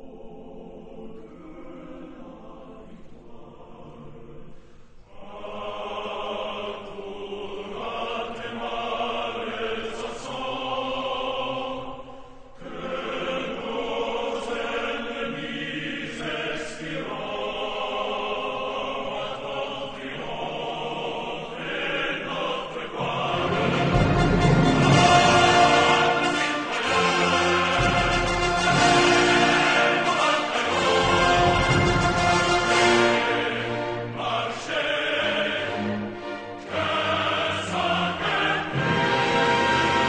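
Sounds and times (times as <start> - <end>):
choir singing slow chords: 0.0 - 40.0.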